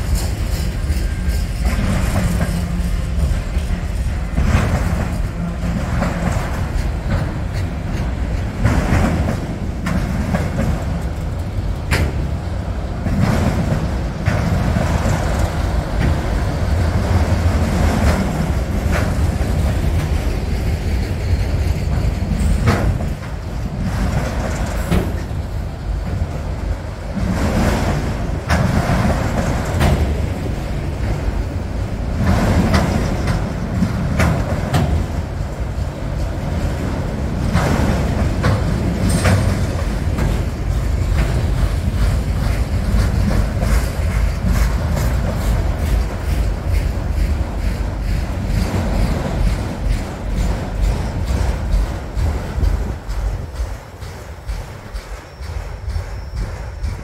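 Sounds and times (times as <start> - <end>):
train cars clanking: 0.0 - 57.0
train wheels rumbling on rails: 0.0 - 57.0.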